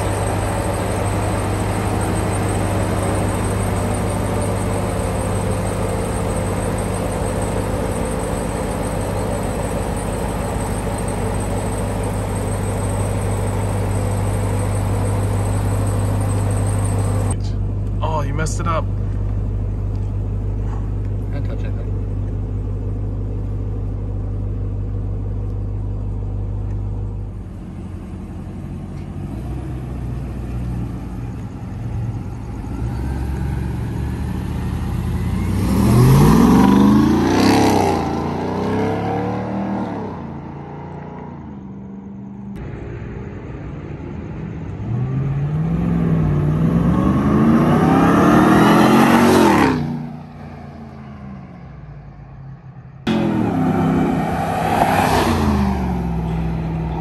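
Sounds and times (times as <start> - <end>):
engine rumbling and accelerating: 0.0 - 57.0.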